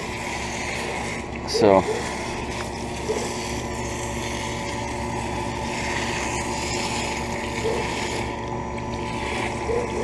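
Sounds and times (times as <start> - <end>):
compressor hum: 0.0 - 10.0.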